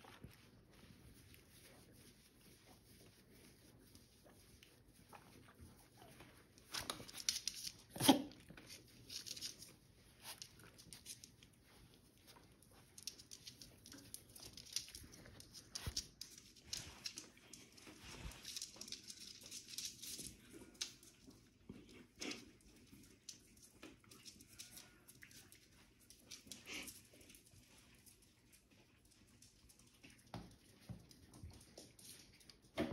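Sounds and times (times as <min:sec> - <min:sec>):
animals scuffling: 0:00.0 - 0:32.8.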